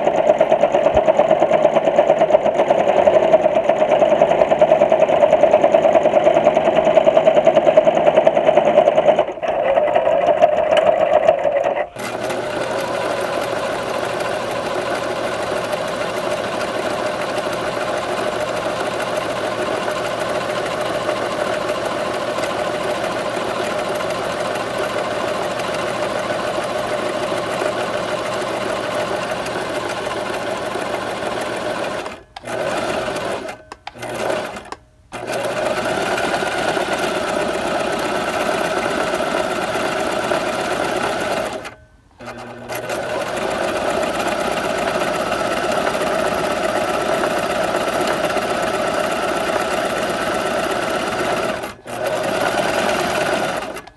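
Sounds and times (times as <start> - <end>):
sewing machine running: 0.0 - 53.9.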